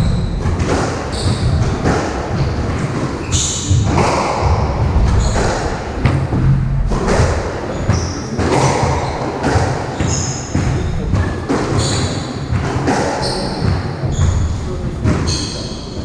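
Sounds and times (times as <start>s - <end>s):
squash ball smacking rackets and walls: 0.0s - 15.6s
sneakers squeaking on wooden floor: 0.0s - 16.0s.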